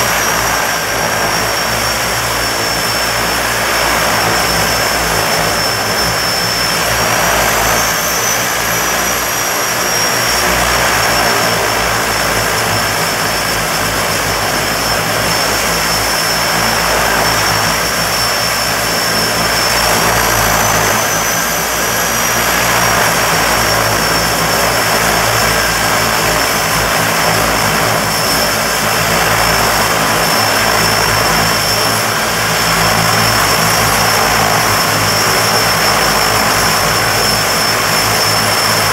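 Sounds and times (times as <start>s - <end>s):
high turbine whine: 0.0s - 38.9s
propeller roar: 0.0s - 38.9s.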